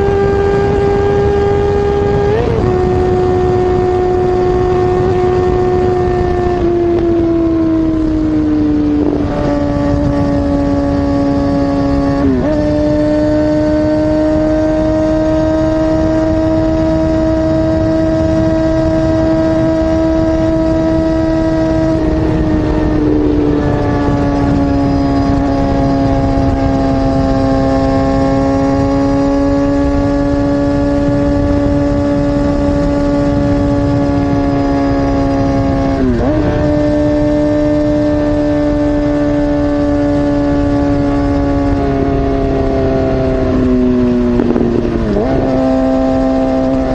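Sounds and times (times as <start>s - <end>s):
constant rush of noise: 0.0s - 46.9s
motorcycle engine at high revs: 0.0s - 46.9s.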